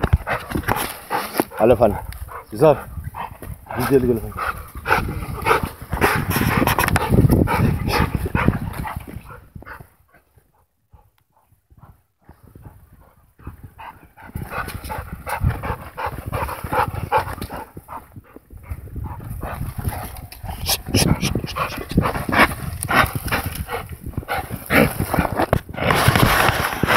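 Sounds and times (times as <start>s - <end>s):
dog sniffing and breathing: 0.1s - 11.1s, 11.8s - 26.9s.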